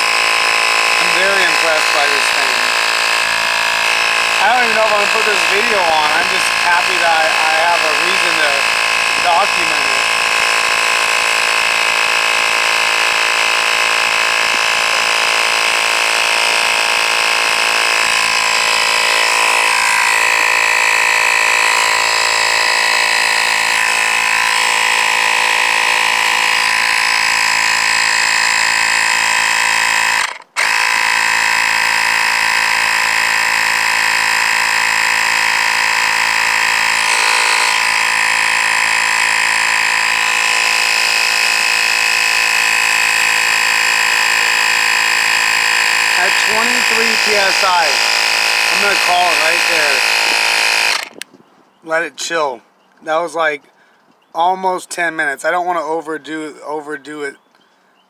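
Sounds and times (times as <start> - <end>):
air compressor buzzing hum: 0.0 - 51.2.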